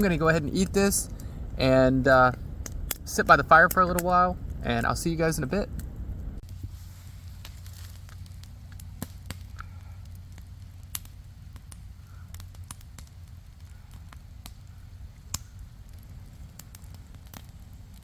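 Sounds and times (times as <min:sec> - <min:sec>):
low rumble: 0:00.0 - 0:18.0
wood fire crackling: 0:00.0 - 0:18.0.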